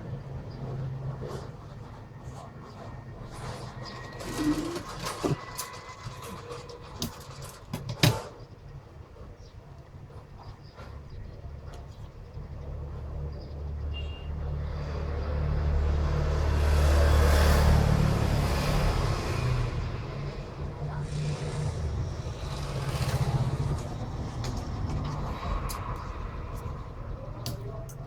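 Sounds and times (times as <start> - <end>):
road vehicle passing: 0.0 - 7.6, 12.1 - 28.0.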